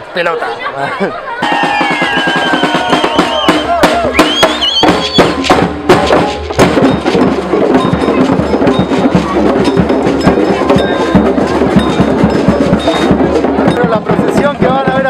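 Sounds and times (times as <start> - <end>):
drum and wood-block strikes: 1.4 - 15.0
percussion music: 1.4 - 15.0.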